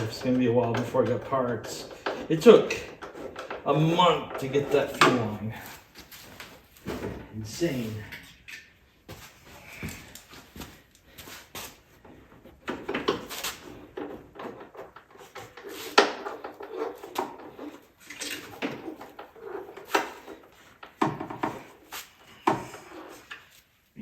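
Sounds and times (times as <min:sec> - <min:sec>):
tools and parts clattering: 0:00.0 - 0:23.6.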